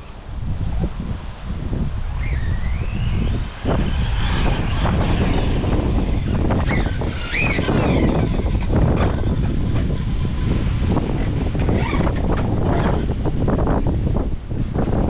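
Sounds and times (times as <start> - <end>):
wind buffeting microphone: 0.0 - 15.0
electric motor whining: 1.6 - 15.0.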